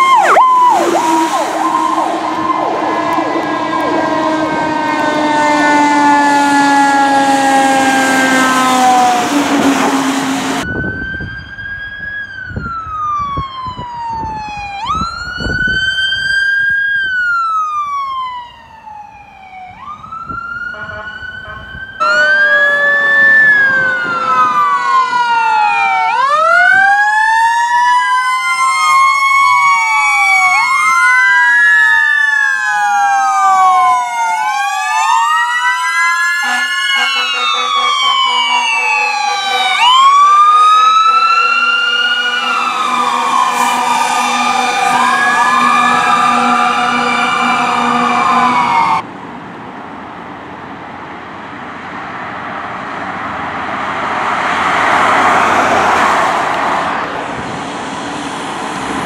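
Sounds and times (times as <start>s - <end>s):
fire truck sirens wailing: 0.0s - 49.1s, 50.4s - 59.0s.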